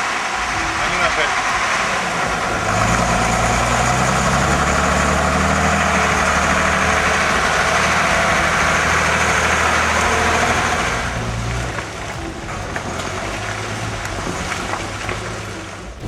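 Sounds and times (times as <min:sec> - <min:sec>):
heavy truck engine running: 0:00.0 - 0:16.0.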